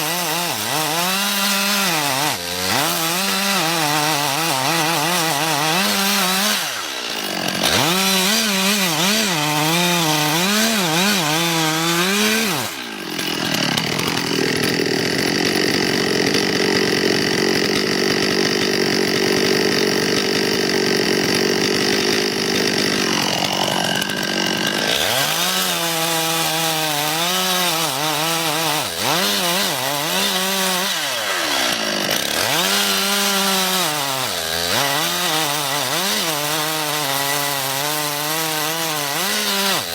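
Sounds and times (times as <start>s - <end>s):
chainsaw cutting wood: 0.0s - 39.9s
chainsaw engine revving: 0.0s - 39.9s.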